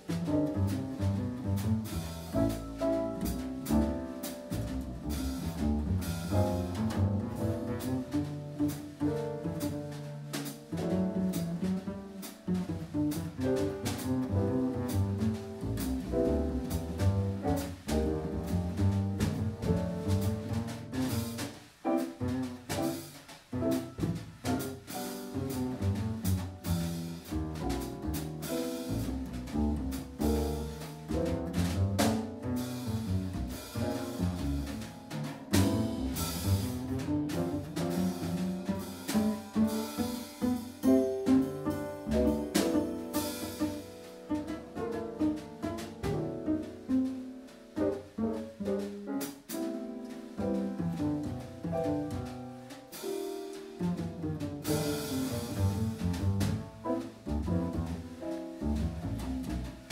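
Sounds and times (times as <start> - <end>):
drum kit cymbals: 0.0 - 59.9
plucked double bass: 0.0 - 59.9.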